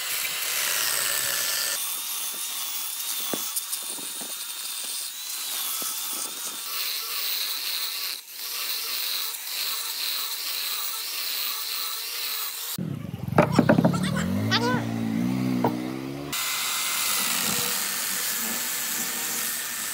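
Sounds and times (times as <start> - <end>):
electric chainsaw cutting wood: 0.0 - 19.9.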